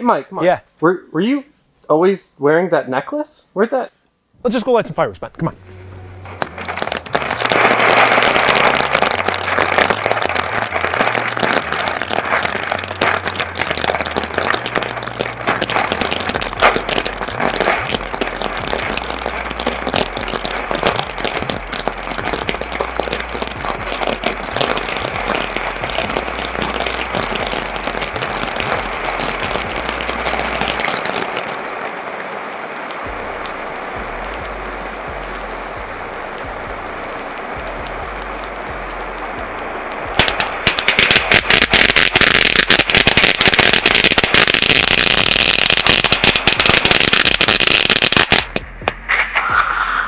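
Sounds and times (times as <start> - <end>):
firework rushing hiss: 5.6 - 50.0
firework sparks crackling: 5.6 - 50.0.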